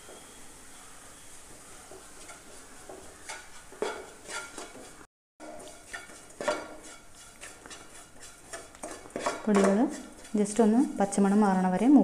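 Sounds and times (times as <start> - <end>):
spatula scraping a pan: 1.8 - 11.6.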